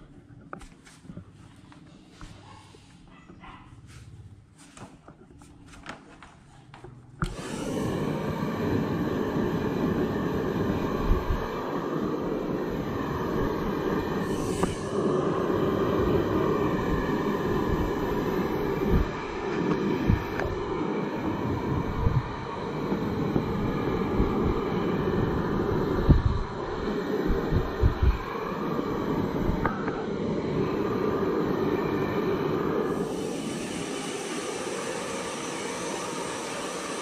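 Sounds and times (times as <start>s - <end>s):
hair dryer running: 7.2s - 37.0s.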